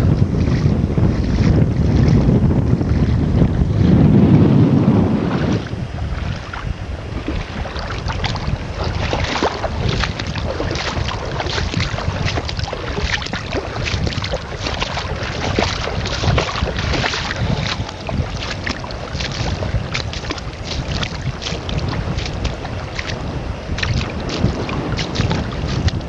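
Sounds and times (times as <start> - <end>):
splashing shallow sea water: 0.0 - 26.0
steady wind rush: 0.0 - 26.0
wind buffeting microphone: 0.0 - 26.0.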